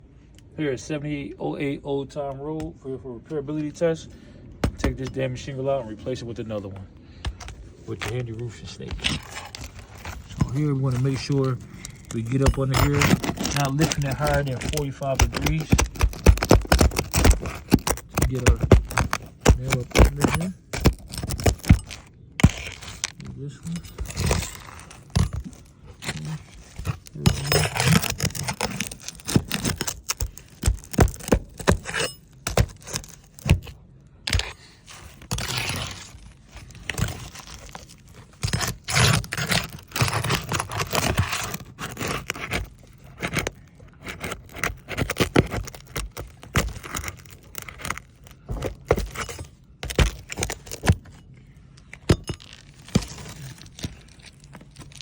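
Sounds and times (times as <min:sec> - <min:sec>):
metal tool scraping shingles: 0:04.7 - 0:05.4, 0:07.2 - 0:51.3, 0:51.9 - 0:55.0.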